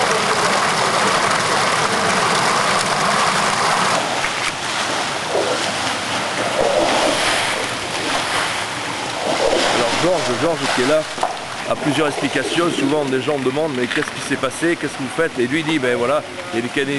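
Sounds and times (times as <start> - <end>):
water gushing over paving: 0.0 - 16.9.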